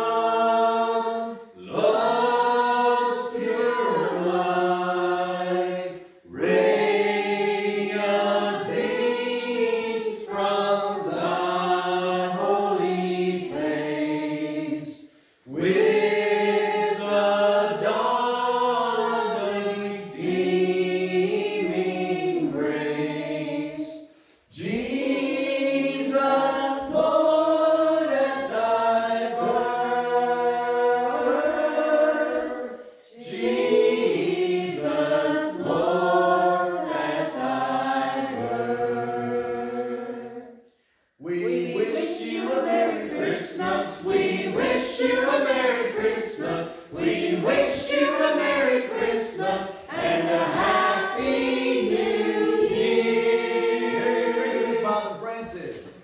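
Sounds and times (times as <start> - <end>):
group singing unaccompanied carol: 0.0 - 56.0.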